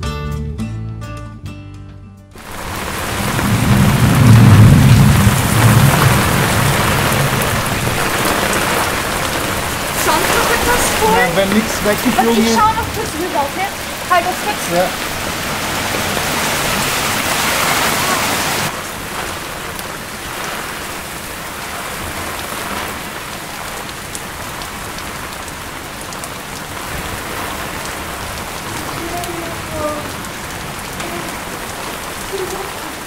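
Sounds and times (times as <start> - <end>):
heavy rain pouring: 2.4 - 33.0.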